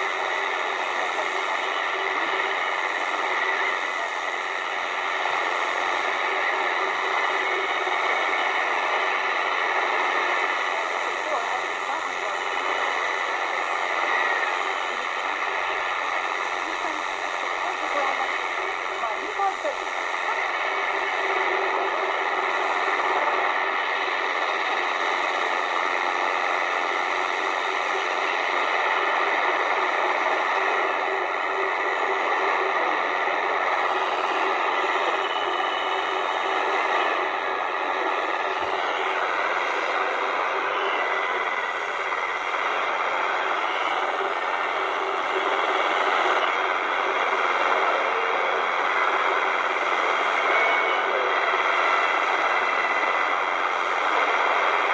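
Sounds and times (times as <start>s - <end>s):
faint steady radio tones: 0.0s - 54.9s
shortwave radio hiss: 0.0s - 54.9s.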